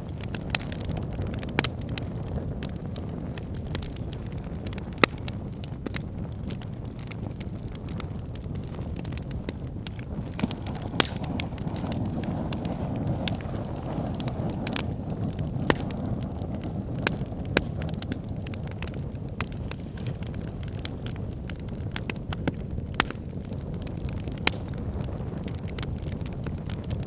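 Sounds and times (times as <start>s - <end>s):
bonfire flames rumbling: 0.0s - 27.0s
fire crackles and pops: 0.0s - 27.0s.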